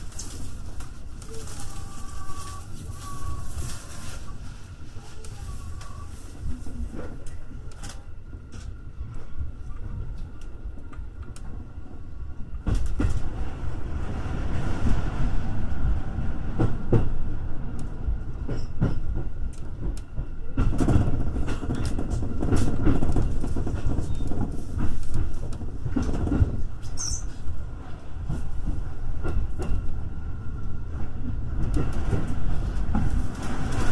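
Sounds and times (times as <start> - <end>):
train rumble: 0.0 - 33.9.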